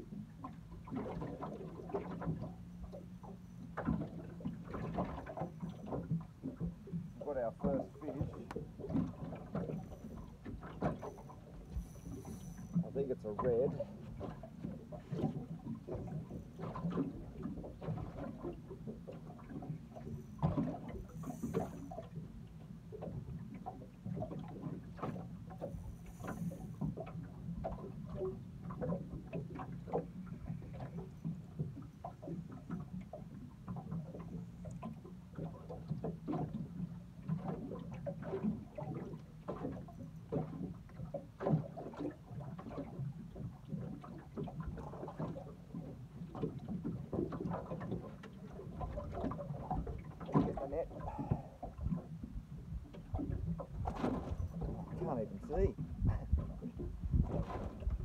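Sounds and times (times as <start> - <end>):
low steady hum: 0.0 - 58.0
water slapping against boat hull: 0.0 - 58.0.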